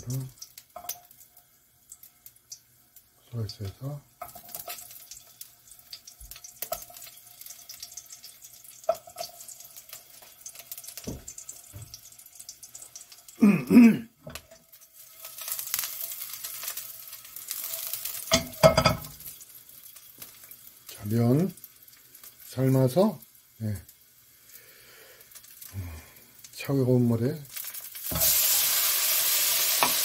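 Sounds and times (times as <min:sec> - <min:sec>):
garlic sizzling in oil: 0:00.0 - 0:13.4, 0:14.2 - 0:30.0.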